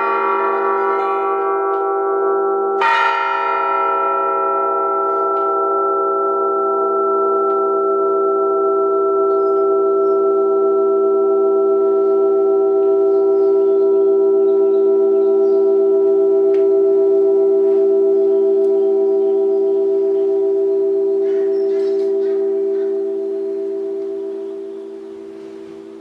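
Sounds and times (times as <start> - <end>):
bells ringing sustained chord: 0.0 - 26.0.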